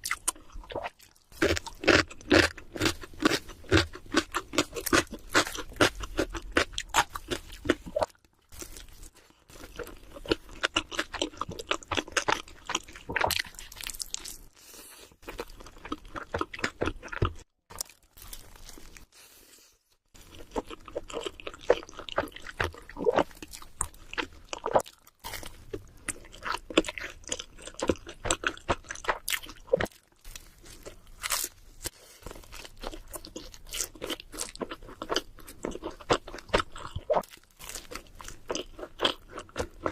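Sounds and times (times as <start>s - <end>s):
chewing and crunching pizza: 0.0s - 39.9s.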